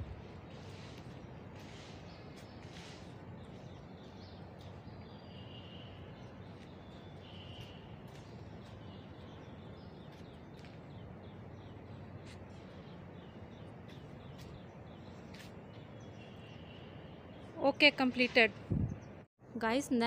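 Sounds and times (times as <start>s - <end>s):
outdoor background noise: 0.0s - 20.0s
small birds chirping: 0.4s - 19.3s.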